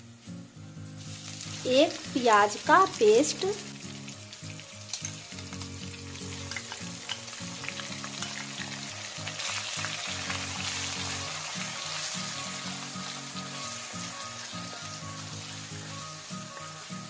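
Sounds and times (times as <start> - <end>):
oil crackling and sizzling: 0.0 - 17.0.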